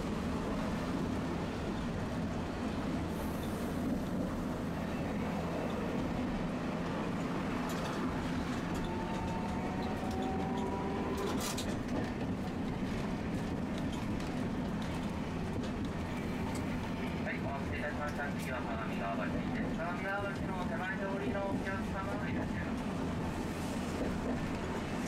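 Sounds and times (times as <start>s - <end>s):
streetcar rumbling on rails: 0.0s - 25.0s.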